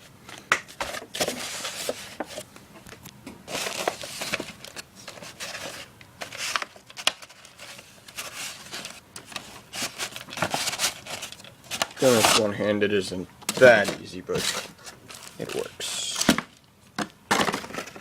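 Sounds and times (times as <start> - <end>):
packaging crinkling and rustling: 0.3 - 2.5, 3.4 - 12.6, 13.5 - 18.0.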